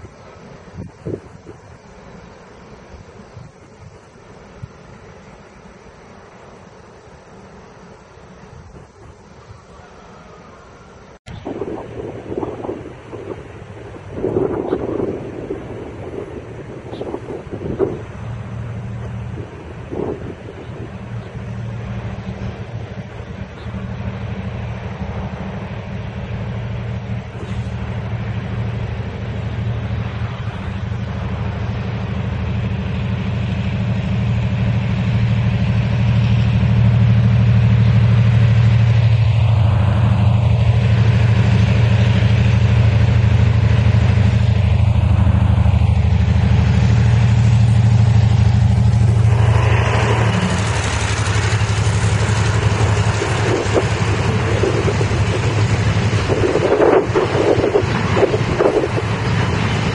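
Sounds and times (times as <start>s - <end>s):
locomotive drone: 0.0s - 59.9s
train passing rush: 0.0s - 59.9s.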